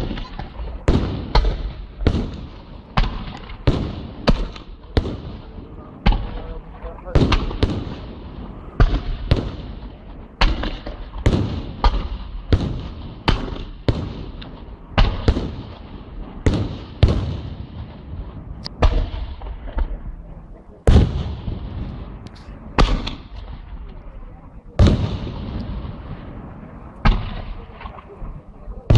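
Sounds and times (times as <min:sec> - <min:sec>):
fireworks exploding: 0:00.0 - 0:28.9.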